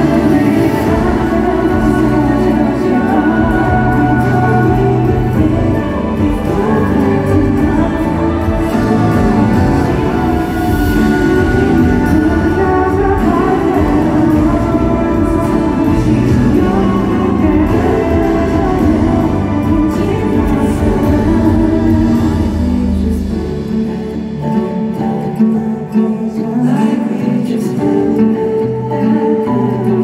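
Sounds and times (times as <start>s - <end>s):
backing music through speakers: 0.0s - 30.0s
man singing pop ballad: 0.0s - 30.0s.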